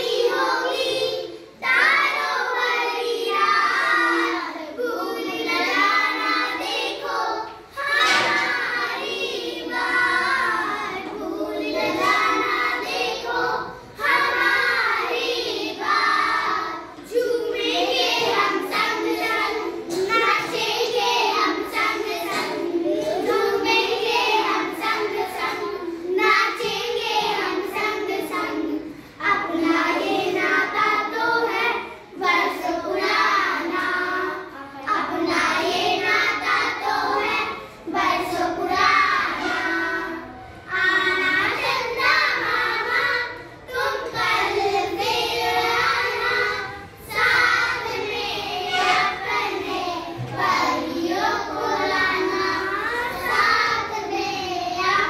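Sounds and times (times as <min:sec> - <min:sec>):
girls singing in unison: 0:00.0 - 0:55.0.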